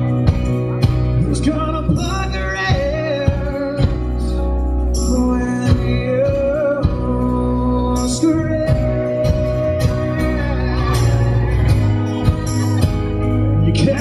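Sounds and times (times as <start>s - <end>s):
man singing: 0.0s - 14.0s
second guitar playing: 0.0s - 14.0s
strummed acoustic guitar: 0.0s - 14.0s.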